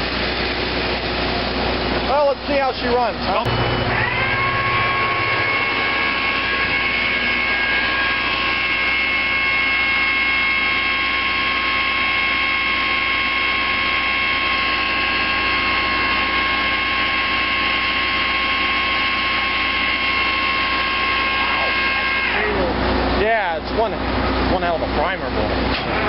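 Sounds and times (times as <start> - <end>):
high whine: 0.0 - 25.7
diesel engine running: 0.0 - 26.0.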